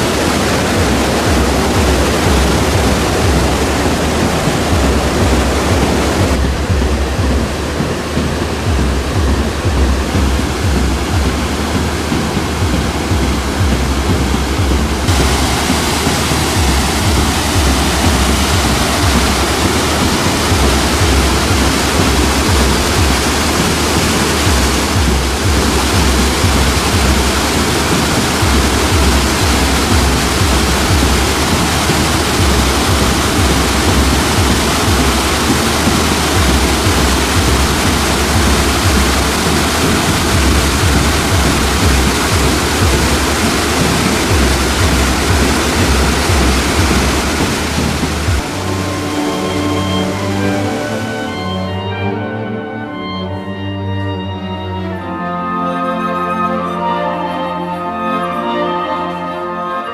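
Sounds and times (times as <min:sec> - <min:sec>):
deep waterfall rumble: 0:00.0 - 0:51.9
waterfall rushing: 0:00.0 - 0:52.6.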